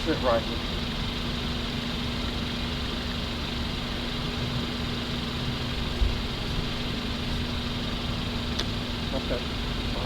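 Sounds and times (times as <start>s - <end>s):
steady engine hum: 0.0s - 10.0s.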